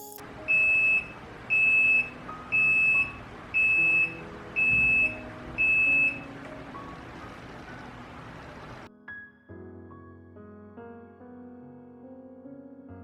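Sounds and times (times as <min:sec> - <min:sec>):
quiet piano music: 0:00.0 - 0:13.0.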